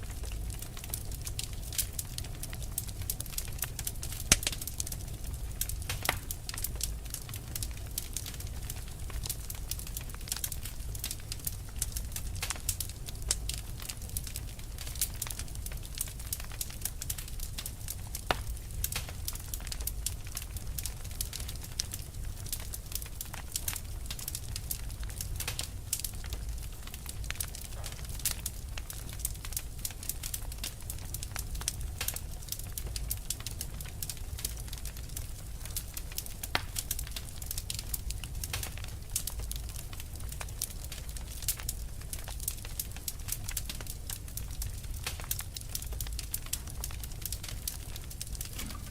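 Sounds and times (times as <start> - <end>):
low rumble of flames: 0.0 - 48.9
wood fire crackling and popping: 0.0 - 48.9.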